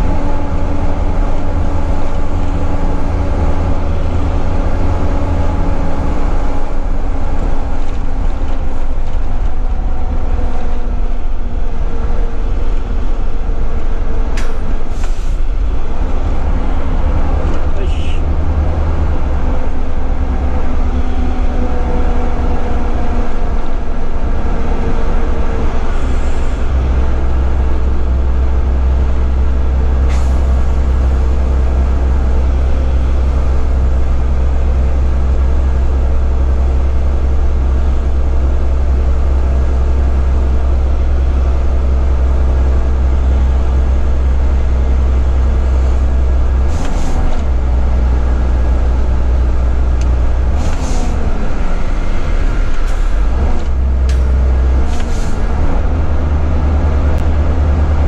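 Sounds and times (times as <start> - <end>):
road and tyre noise: 0.0 - 58.0
truck diesel engine droning: 0.0 - 58.0.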